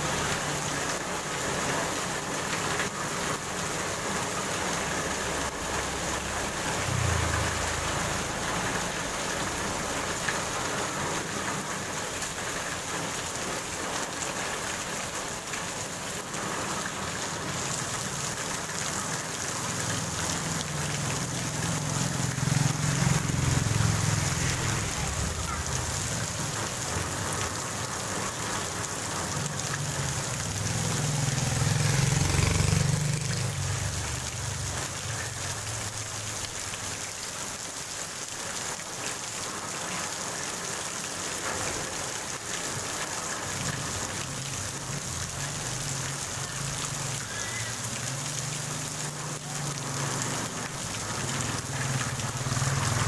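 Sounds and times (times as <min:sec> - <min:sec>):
heavy rain on pavement: 0:00.0 - 0:53.0
motorbike riding through water: 0:00.0 - 0:53.0.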